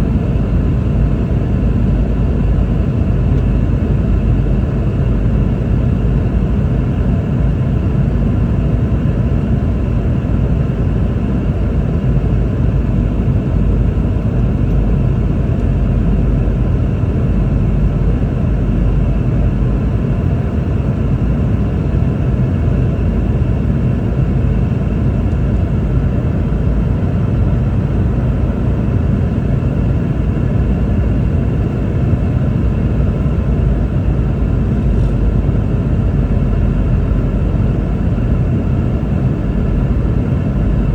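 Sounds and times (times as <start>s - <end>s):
airplane cabin rumble: 0.0s - 40.9s
faint steady whine: 0.0s - 40.9s.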